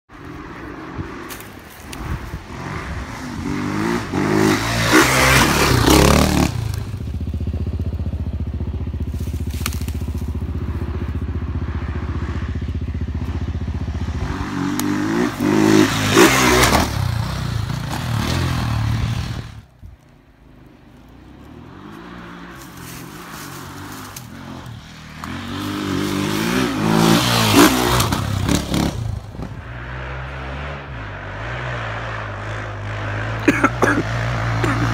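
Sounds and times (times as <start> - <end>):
dirt bikes passing: 0.1 - 34.9
dirt bike engines revving: 0.2 - 19.7, 20.5 - 34.9.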